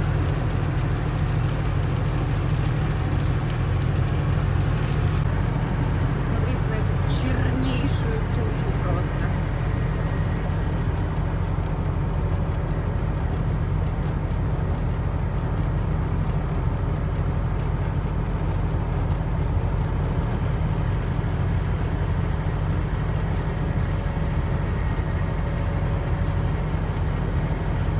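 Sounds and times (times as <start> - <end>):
truck engine and road rumble: 0.0 - 27.9.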